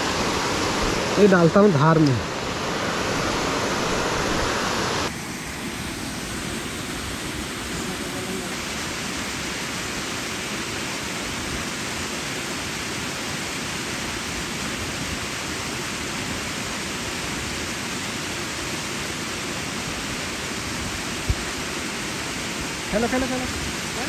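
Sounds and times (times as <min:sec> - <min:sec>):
water rushing over a weir: 0:00.0 - 0:24.0.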